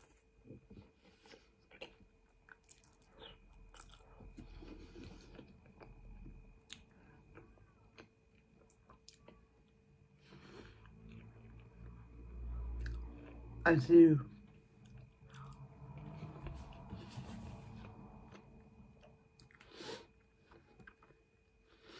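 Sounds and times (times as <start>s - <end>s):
person chewing: 0.0s - 13.6s, 14.3s - 21.9s.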